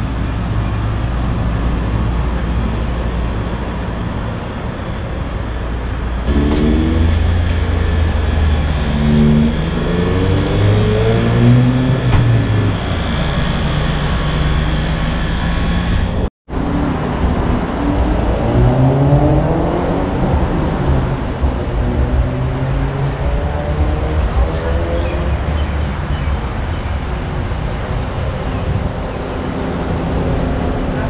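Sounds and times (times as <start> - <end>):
low traffic rumble: 0.0 - 31.0
vehicles accelerating past: 5.8 - 31.0.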